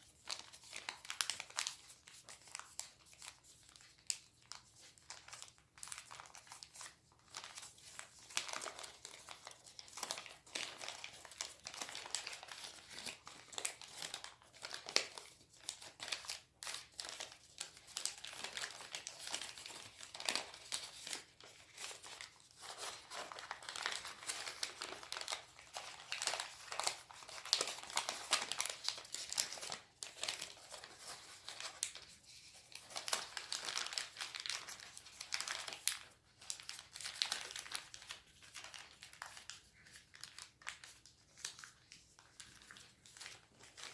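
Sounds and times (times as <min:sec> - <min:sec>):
paper folding and crinkling: 0:00.0 - 0:43.9.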